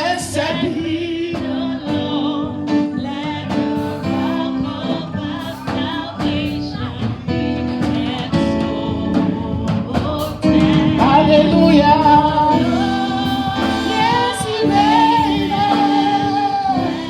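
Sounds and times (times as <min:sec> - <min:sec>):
guitar: 0:00.0 - 0:17.0
voices singing: 0:00.0 - 0:17.0
worship band playing: 0:00.0 - 0:17.0.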